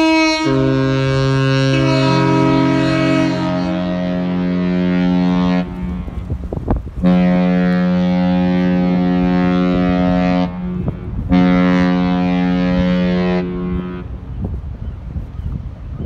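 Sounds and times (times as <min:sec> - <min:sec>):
deep ship horn blasts: 0:00.0 - 0:14.4
wind buffeting microphone: 0:00.0 - 0:16.0.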